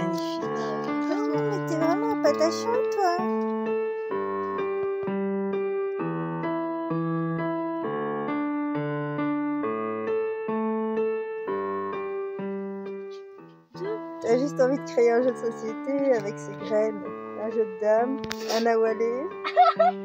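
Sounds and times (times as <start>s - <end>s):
solo piano chords: 0.0s - 20.0s.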